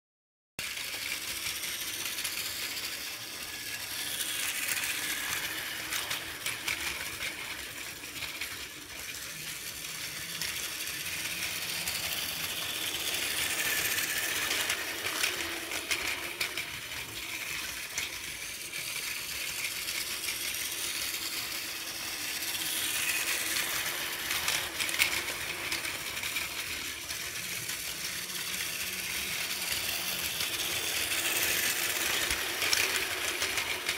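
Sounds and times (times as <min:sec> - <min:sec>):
toy train motor whine: 0:00.6 - 0:33.9
wheels clicking over track joints: 0:00.6 - 0:33.9.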